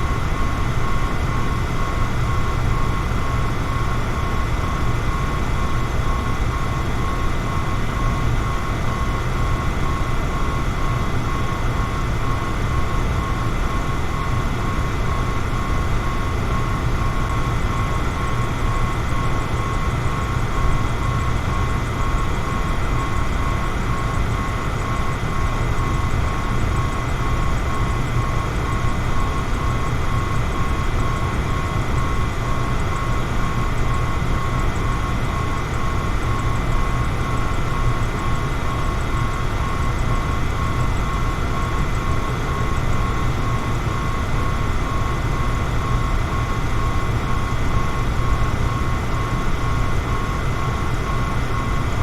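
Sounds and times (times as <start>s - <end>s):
electric fan running: 0.0s - 52.0s.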